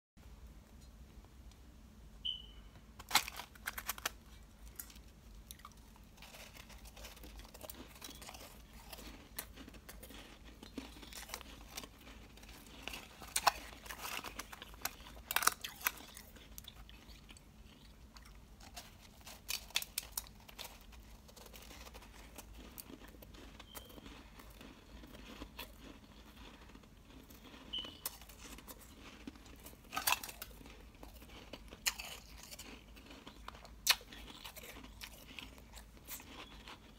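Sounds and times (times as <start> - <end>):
powdery ice crunching: 3.0 - 17.8, 18.6 - 36.9.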